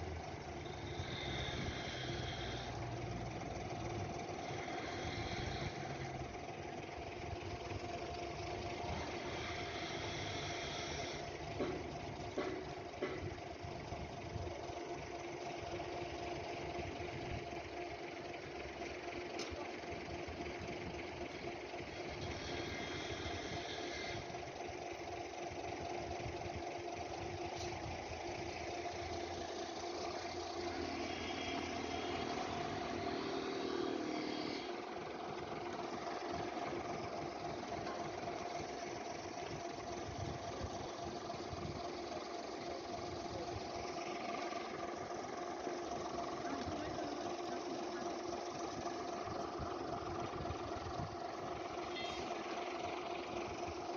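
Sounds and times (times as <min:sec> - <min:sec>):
machine humming: 0:00.0 - 0:53.9.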